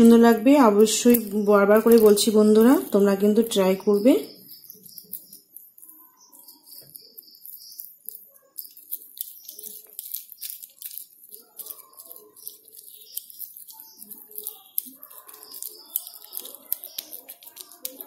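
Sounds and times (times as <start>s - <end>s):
faint high bird chirps: 0.0s - 18.0s
sticky squishing of hands: 0.0s - 18.0s.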